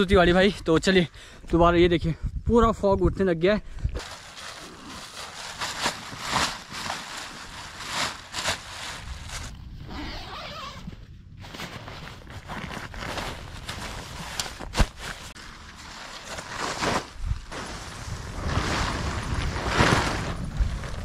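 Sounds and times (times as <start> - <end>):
tent gear rustling: 4.0 - 21.0.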